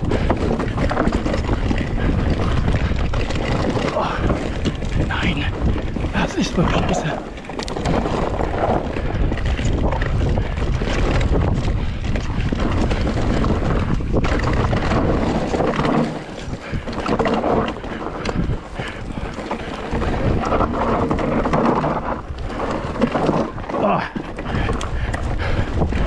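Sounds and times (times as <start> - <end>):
bike clattering over bumps: 0.0 - 26.0
tyres on dirt: 0.0 - 26.0
wind buffeting microphone: 0.0 - 26.0.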